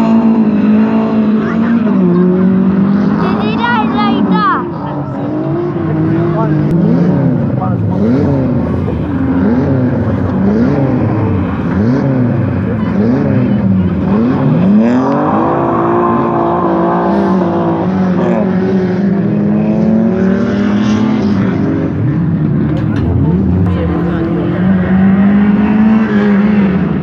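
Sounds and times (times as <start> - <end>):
rally car engine revving: 0.0 - 27.0.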